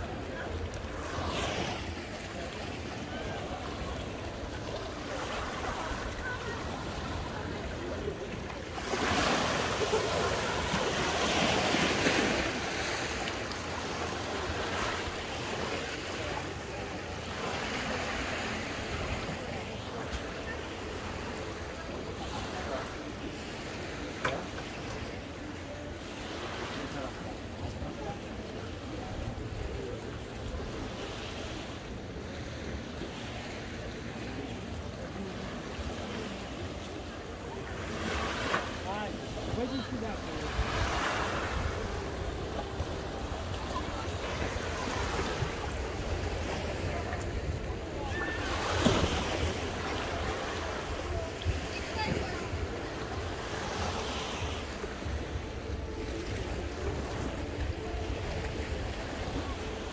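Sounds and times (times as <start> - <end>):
sea waves washing onto shore: 0.0 - 59.9.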